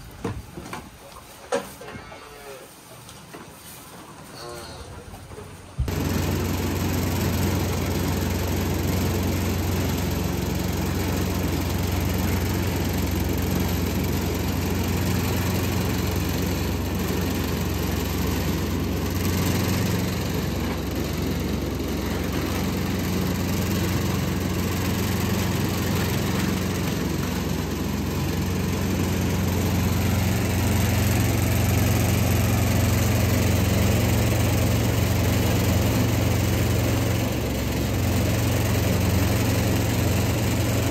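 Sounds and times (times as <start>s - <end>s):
electric stirrer motor humming: 5.9s - 40.9s.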